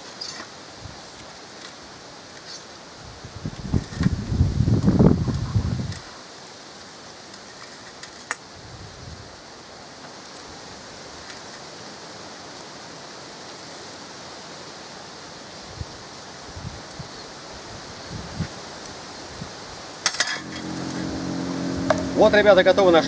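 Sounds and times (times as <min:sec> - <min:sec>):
leaves rustling in breeze: 0:00.0 - 0:23.0.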